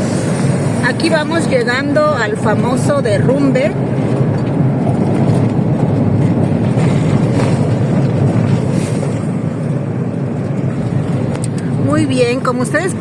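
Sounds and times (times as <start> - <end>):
vehicle driving on road: 0.0 - 13.0.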